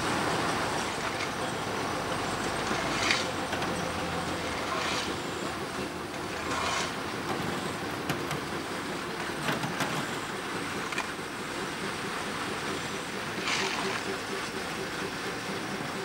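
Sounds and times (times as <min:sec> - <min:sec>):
engine rumble: 0:00.0 - 0:16.0.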